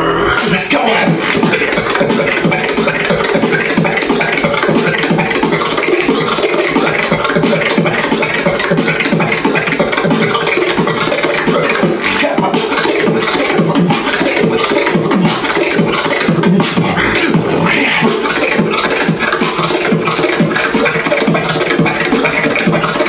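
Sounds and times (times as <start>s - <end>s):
beatboxing: 0.0s - 23.0s
steady held tone: 0.0s - 23.0s.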